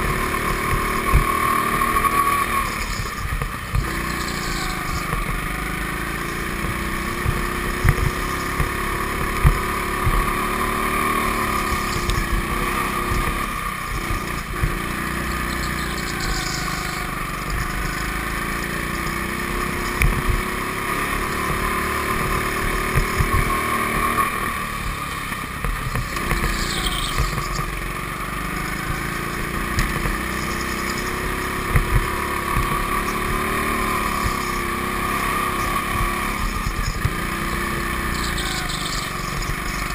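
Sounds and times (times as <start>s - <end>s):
go-kart motor running: 0.0s - 39.9s.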